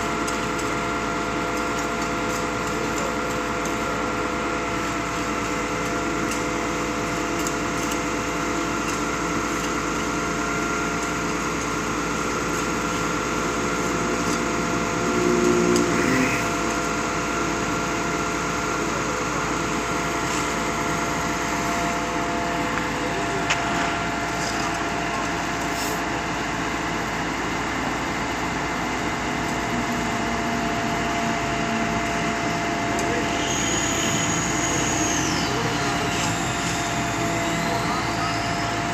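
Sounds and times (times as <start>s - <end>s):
pump engine humming: 0.0s - 38.9s.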